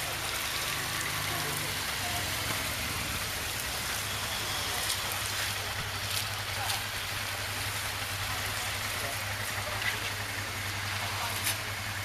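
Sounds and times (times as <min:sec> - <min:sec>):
motorcycle engines running low: 0:00.0 - 0:12.0
rain on a wet road: 0:00.0 - 0:12.0.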